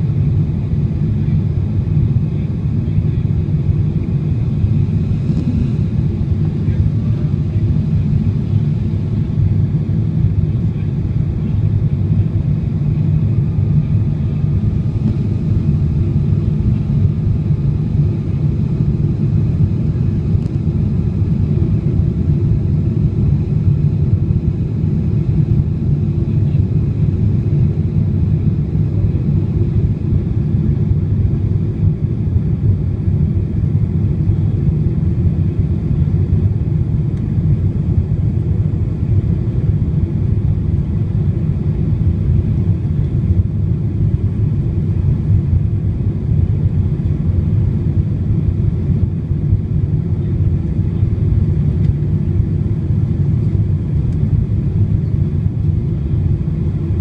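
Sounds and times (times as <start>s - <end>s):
airplane engines rumbling in cabin: 0.0s - 57.0s.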